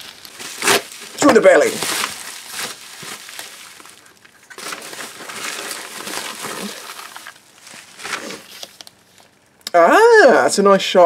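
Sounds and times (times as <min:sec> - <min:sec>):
bubble wrap rustling and crinkling: 0:00.0 - 0:09.5.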